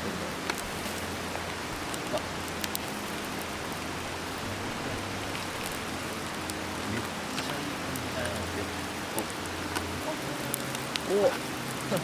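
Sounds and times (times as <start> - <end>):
butter and oil sizzling: 0.0 - 12.0
small pops and crackles: 0.4 - 12.0.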